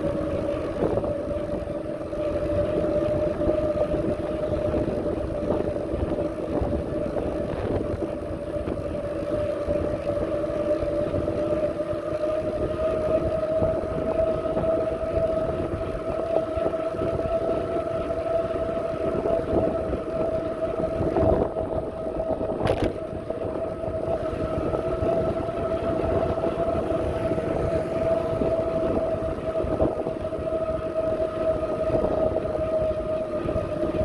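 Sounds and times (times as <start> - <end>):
steady high whine: 0.0 - 34.0
wind rumbling on microphone: 0.0 - 34.0.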